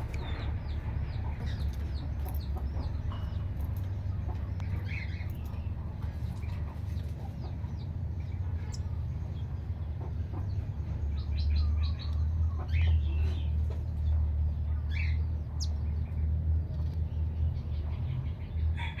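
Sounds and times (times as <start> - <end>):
steady low rumble: 0.0 - 18.9
small birds chirping: 0.0 - 19.0.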